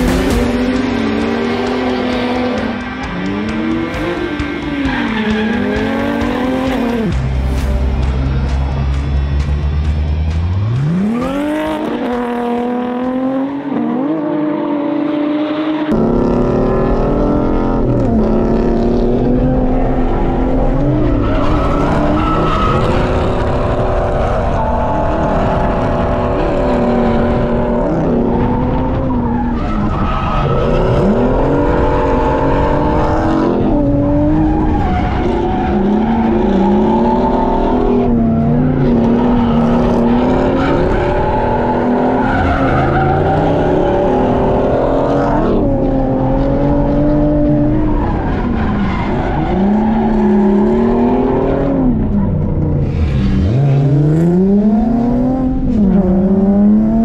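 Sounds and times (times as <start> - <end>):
car engine revving: 0.0 - 57.0
tyres skidding: 0.0 - 57.0.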